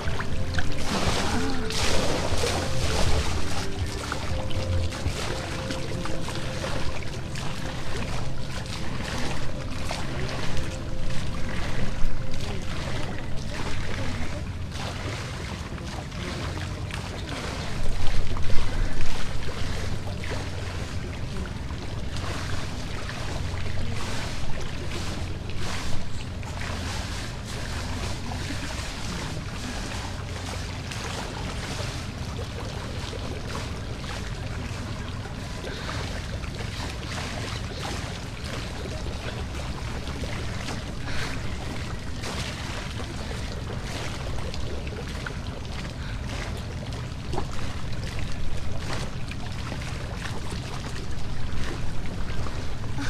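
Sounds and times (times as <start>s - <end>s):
pool water lapping and sloshing: 0.0s - 53.0s
swimmer splashing: 0.0s - 53.0s.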